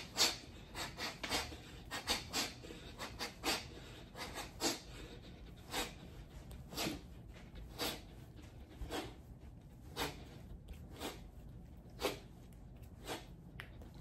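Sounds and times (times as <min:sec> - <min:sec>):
sharp exhaled breaths: 0:00.0 - 0:11.3.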